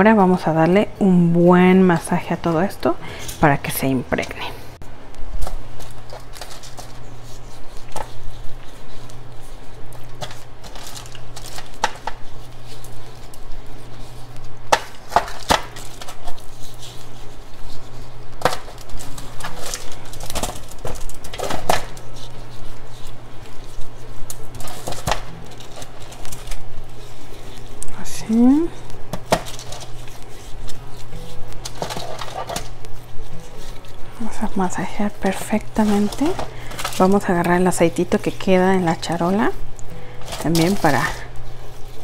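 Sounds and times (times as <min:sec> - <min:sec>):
steady low hum: 0:00.0 - 0:42.0
aluminium foil crinkling: 0:05.1 - 0:42.0.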